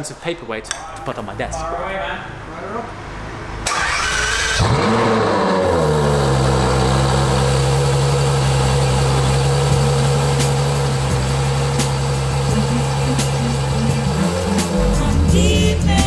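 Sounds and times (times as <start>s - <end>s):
car engine revving and idling: 3.0s - 16.0s.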